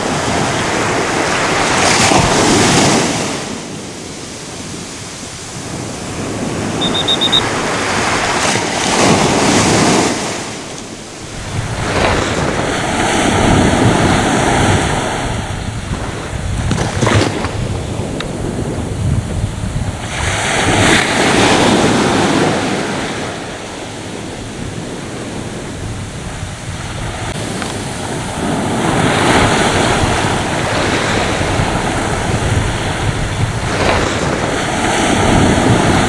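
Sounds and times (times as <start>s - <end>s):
sea waves breaking on beach: 0.0s - 36.0s.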